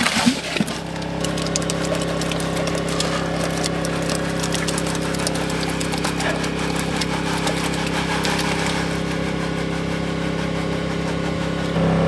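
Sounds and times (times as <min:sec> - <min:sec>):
cement mixer running: 0:00.0 - 0:12.0.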